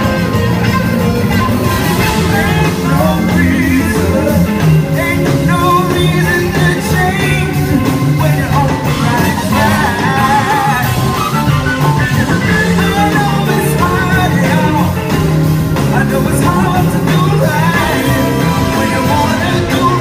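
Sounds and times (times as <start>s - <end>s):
bending lead melody: 0.0s - 20.0s
live rock band playing: 0.0s - 20.0s.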